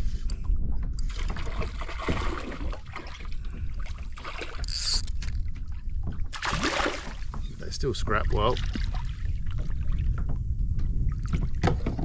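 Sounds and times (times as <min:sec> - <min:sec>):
water splashing and sloshing: 0:00.0 - 0:12.0
wind rumbling on microphone: 0:00.0 - 0:12.0.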